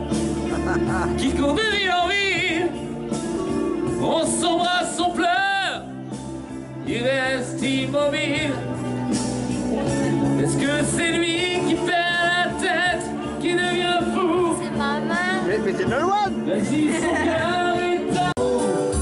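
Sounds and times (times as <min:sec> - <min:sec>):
backing music: 0:00.0 - 0:19.0
man singing into microphone: 0:00.4 - 0:02.8, 0:03.5 - 0:05.9, 0:06.8 - 0:08.8, 0:09.8 - 0:19.0.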